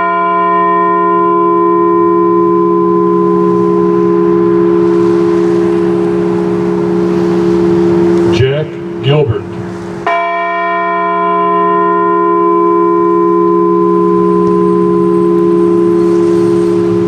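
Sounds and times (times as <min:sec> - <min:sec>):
large bell ringing: 0:00.0 - 0:17.0.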